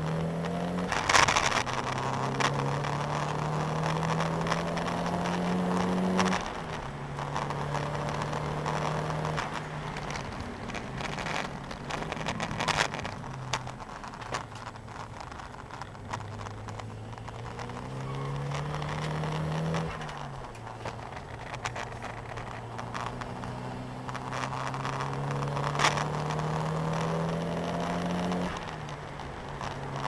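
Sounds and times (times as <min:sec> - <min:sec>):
car engine revving: 0:00.0 - 0:30.0
sharp clicks and rattles: 0:00.0 - 0:30.0.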